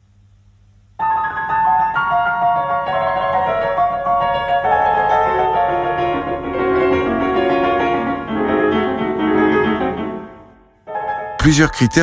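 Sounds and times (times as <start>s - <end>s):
slow piano music: 1.0s - 12.0s.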